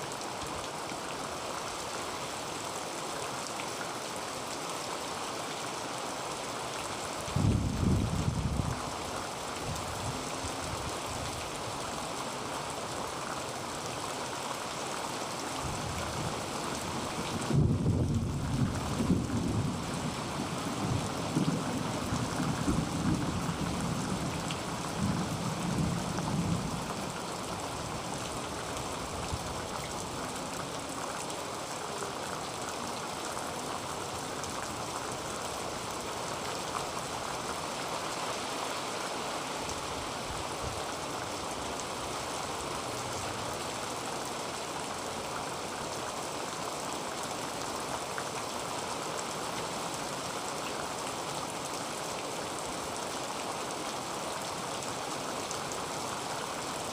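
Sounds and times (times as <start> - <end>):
heavy rain on a tin roof: 0.0 - 56.9.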